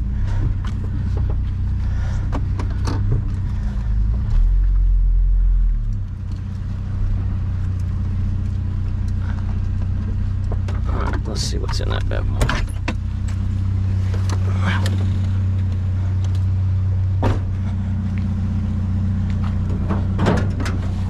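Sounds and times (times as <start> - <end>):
vehicle engine reversing slowly: 0.0 - 21.0.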